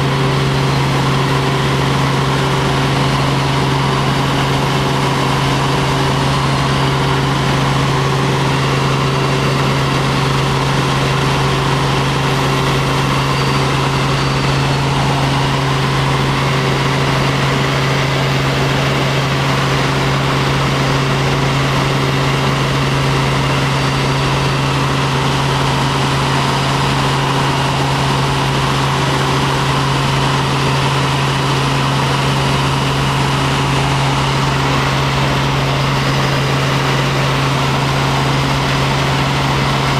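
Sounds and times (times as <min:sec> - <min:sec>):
helicopter turbine and rotors droning: 0:00.0 - 0:39.9.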